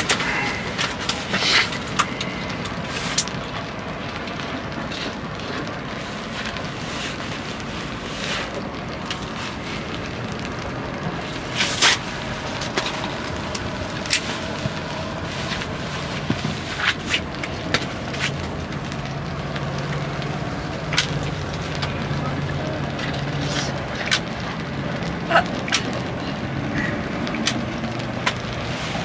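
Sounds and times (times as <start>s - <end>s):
steady rushing background noise: 0.0s - 29.0s.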